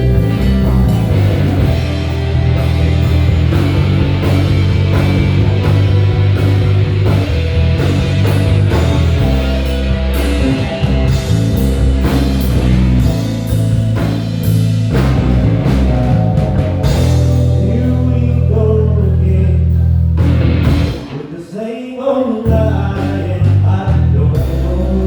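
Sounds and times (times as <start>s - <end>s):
drum kit steady beat: 0.0s - 18.0s, 22.5s - 25.0s
electric bass line: 0.0s - 21.2s, 22.4s - 25.0s
guitar: 0.0s - 25.0s.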